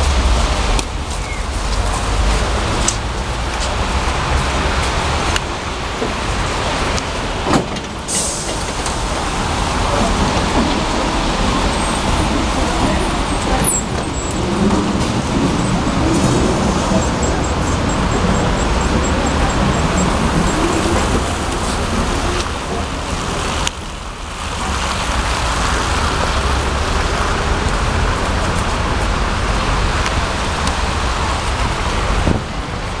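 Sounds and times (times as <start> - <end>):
street traffic rumble: 0.0 - 33.0
tram pulling away: 0.0 - 33.0.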